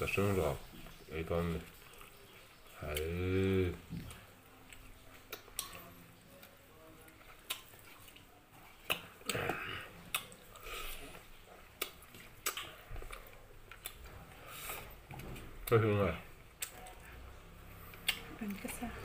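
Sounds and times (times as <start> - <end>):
person chewing: 1.6 - 18.4.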